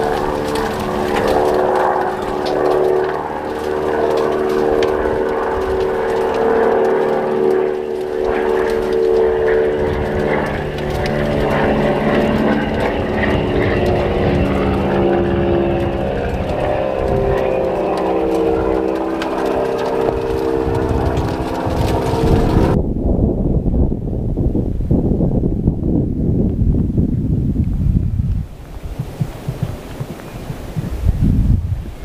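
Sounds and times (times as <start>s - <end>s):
drone propellers buzzing: 0.0s - 22.9s, 27.9s - 32.0s.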